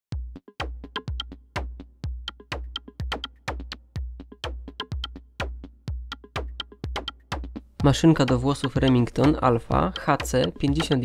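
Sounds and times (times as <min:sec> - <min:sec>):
electronic music with drum-machine beat: 0:00.1 - 0:11.0.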